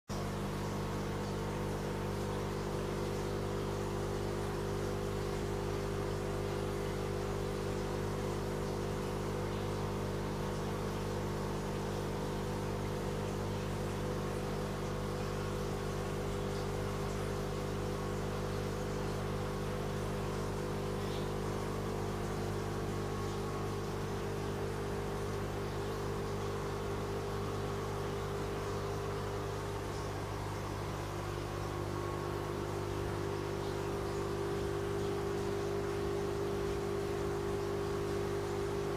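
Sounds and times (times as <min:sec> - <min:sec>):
aquarium air pump humming: 0:00.1 - 0:38.9.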